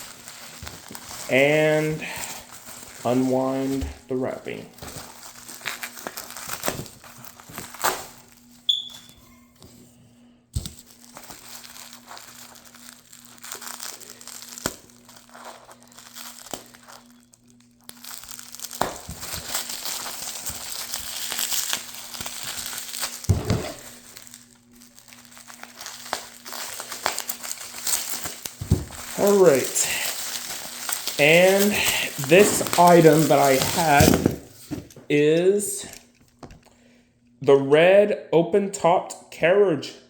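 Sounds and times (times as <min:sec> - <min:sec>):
packaging wrap crinkling: 0:00.0 - 0:09.9, 0:10.6 - 0:36.8.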